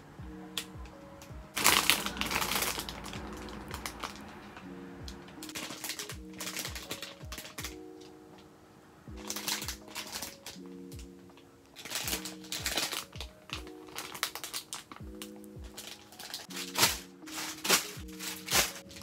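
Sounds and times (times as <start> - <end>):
soft background music: 0.0 - 19.0
plastic packaging crinkling: 1.6 - 4.7, 5.3 - 8.1, 9.2 - 19.0.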